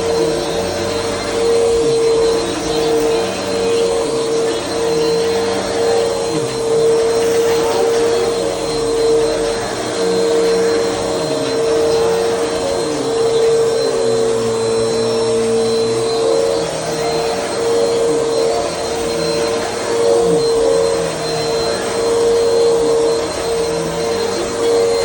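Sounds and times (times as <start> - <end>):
vacuum cleaner humming: 0.0 - 25.0.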